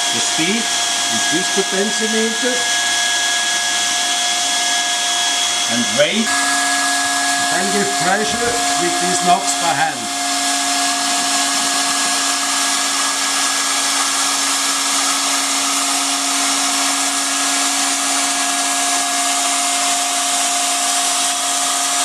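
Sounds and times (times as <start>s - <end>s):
hot-air blower rushing: 0.0s - 22.0s
motor hum and whine: 0.0s - 22.0s.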